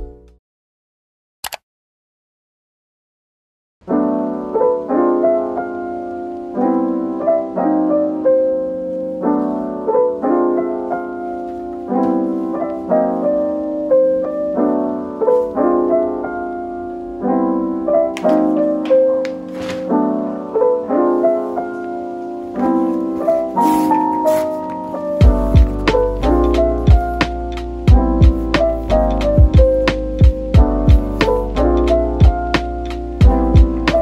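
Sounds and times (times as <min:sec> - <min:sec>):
soft piano piece: 0:03.8 - 0:34.0.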